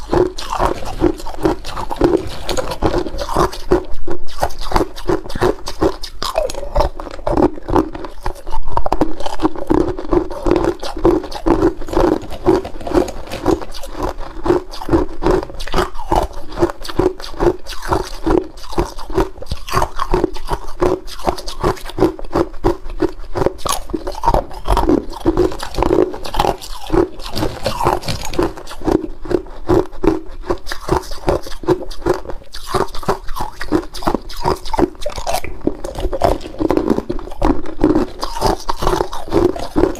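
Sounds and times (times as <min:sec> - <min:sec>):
ice cubes crunching being chewed: 0:00.0 - 0:39.9.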